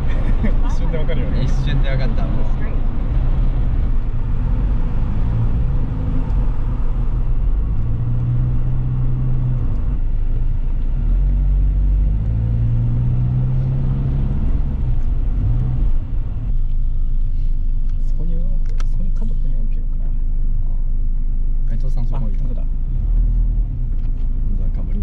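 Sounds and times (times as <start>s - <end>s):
car engine driving: 0.0s - 25.0s
road noise: 0.0s - 25.0s.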